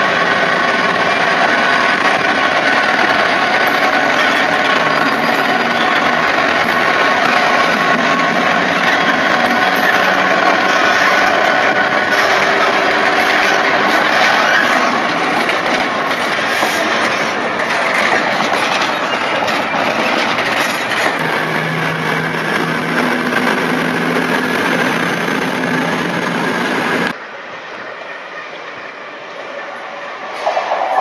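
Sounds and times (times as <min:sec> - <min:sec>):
approaching diesel locomotive: 0:00.0 - 0:31.0
trains passing at speed: 0:00.0 - 0:31.0.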